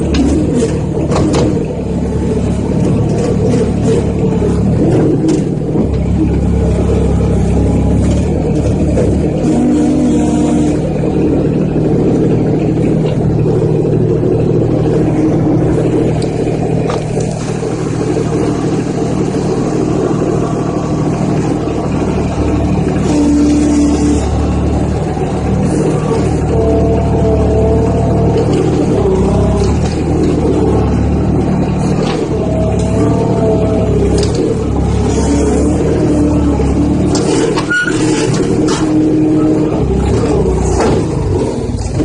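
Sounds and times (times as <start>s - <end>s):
loader engine running: 0.0s - 42.0s.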